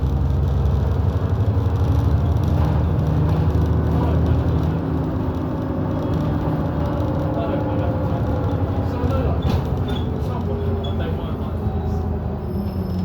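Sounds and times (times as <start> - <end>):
bus engine humming: 0.0 - 13.0.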